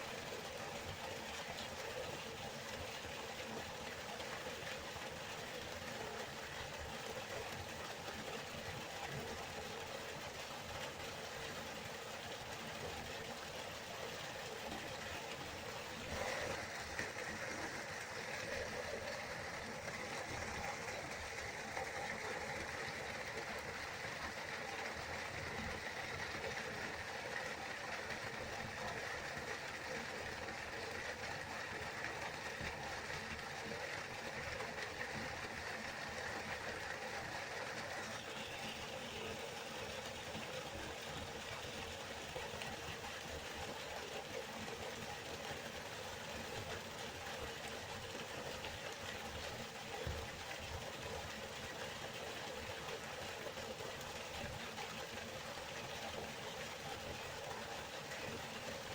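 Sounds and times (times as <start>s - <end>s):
waterfall: 0.0s - 58.9s.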